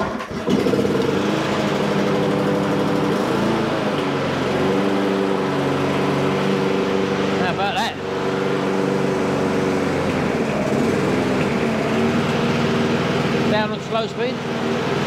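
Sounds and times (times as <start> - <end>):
lawn mower engine starting and running: 0.0 - 15.0.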